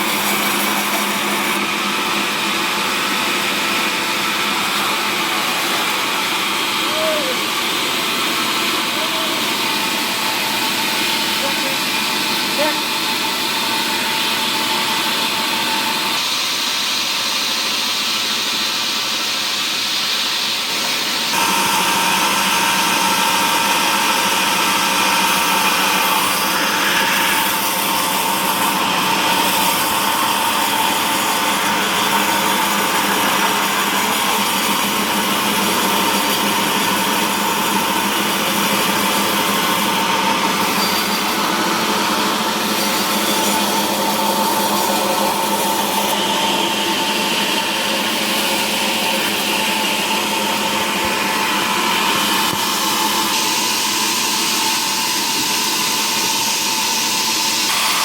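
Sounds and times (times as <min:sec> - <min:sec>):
constant machine whine: 0:00.0 - 0:58.0
woodworking machine cutting wood: 0:00.0 - 0:58.0.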